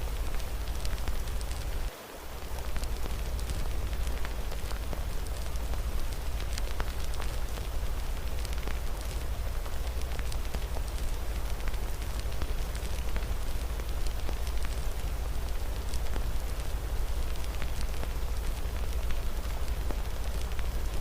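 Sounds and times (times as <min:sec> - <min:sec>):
rain falling: 0:00.0 - 0:21.0
wood fire crackling: 0:00.0 - 0:21.0.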